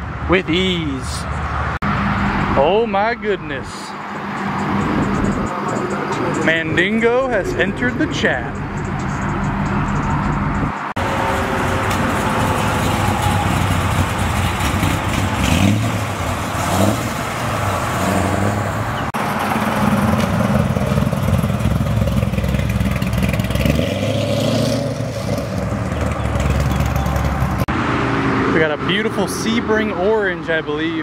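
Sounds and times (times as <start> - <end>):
car engines revving and accelerating: 1.2 - 30.9.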